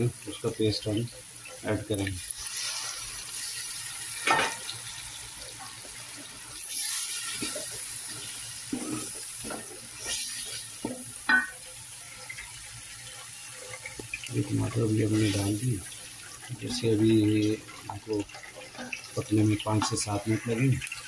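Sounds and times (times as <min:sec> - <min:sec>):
frying sizzle: 0:00.0 - 0:21.0.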